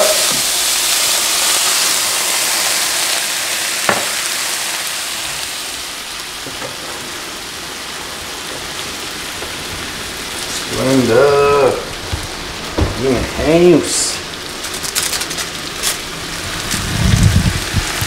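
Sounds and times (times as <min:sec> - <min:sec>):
vegetables sizzling in frying pan: 0:00.0 - 0:18.0.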